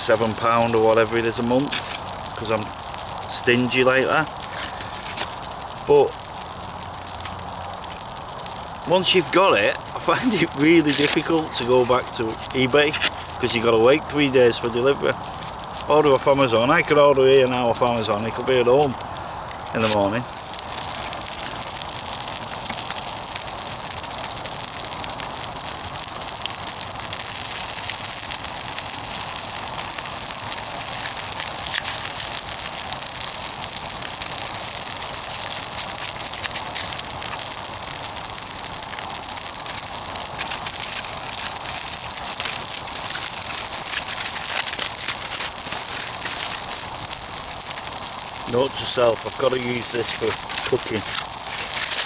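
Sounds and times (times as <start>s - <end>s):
burgers sizzling: 0.0s - 52.0s
burning wood crackling: 0.0s - 52.0s.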